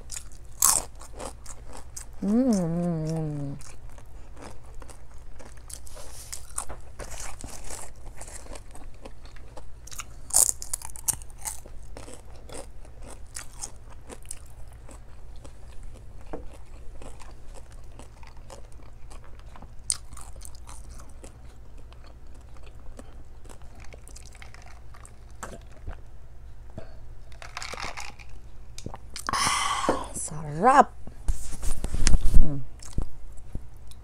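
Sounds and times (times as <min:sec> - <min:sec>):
person chewing food: 0:00.0 - 0:26.0, 0:26.8 - 0:29.8, 0:32.8 - 0:34.0
steady low hum: 0:00.0 - 0:34.0.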